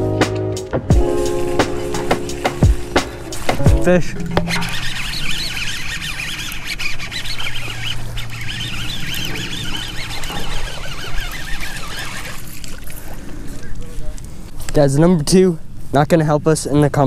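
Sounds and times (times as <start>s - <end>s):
birds chirping chorus: 0.9s - 15.9s.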